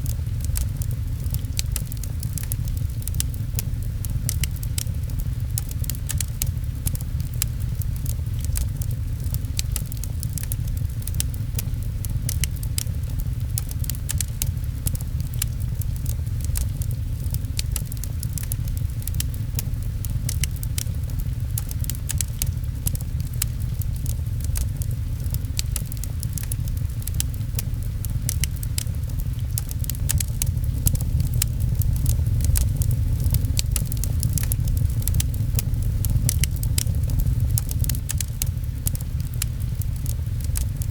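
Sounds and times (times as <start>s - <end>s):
fireplace crackling and popping: 0.0s - 40.9s
rain rumbling: 0.0s - 40.9s.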